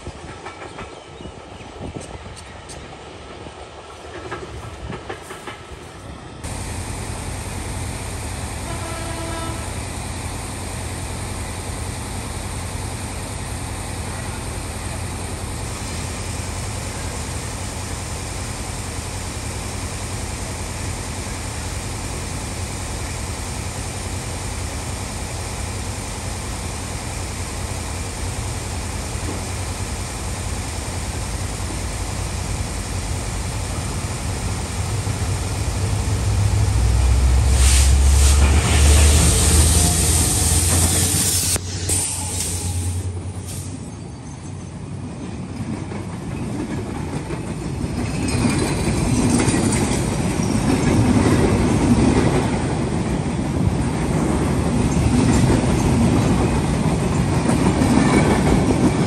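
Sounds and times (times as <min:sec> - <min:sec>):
diesel train engine rumbling: 0:00.0 - 0:59.0.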